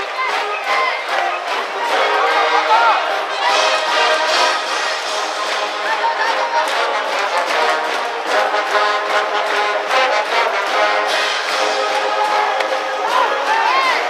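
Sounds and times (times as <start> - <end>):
brass band playing: 0.0 - 14.0
steady drumbeat: 0.0 - 14.0
trumpets and trombones: 0.0 - 14.0.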